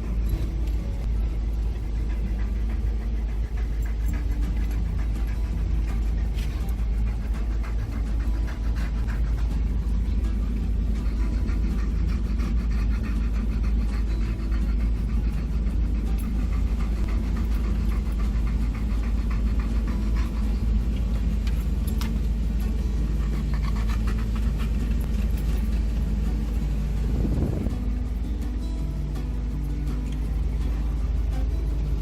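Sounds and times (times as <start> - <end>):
road noise: 0.0 - 32.0
van engine rumble: 0.0 - 32.0.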